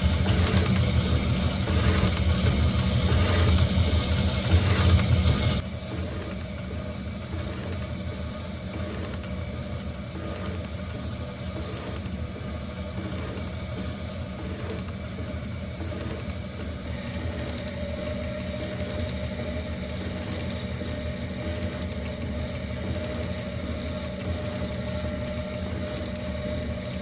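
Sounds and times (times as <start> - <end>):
motor humming: 0.0 - 27.0.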